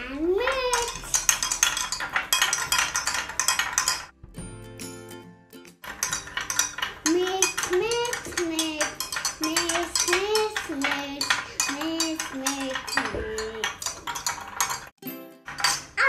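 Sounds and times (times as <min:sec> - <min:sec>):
spoon clinking in a glass: 0:00.7 - 0:04.1, 0:05.9 - 0:14.9, 0:15.5 - 0:16.0.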